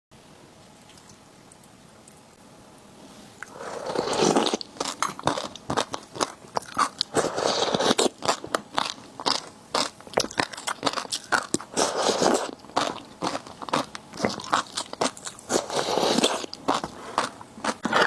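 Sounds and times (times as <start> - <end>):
crunchy bites and chewing: 3.4 - 18.0.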